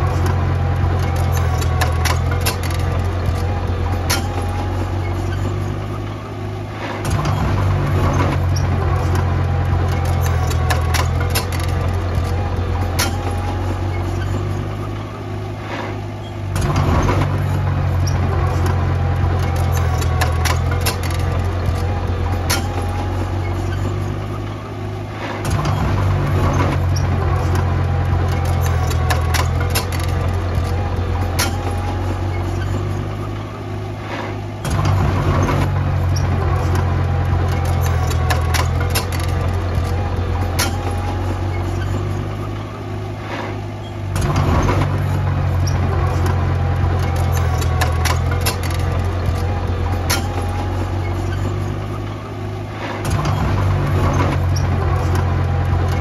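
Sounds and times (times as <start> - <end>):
bulldozer diesel engine working: 0.0 - 56.0
machine clanks and rattles: 0.0 - 56.0.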